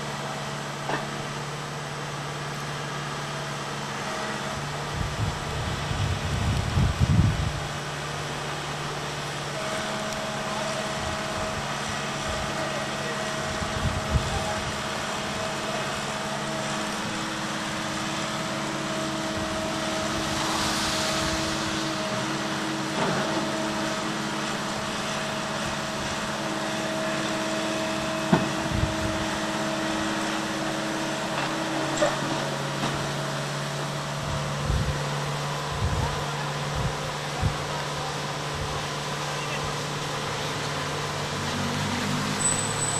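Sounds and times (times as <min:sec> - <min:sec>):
diesel excavator engine humming: 0:00.0 - 0:42.9
floodwater rushing: 0:00.0 - 0:42.9.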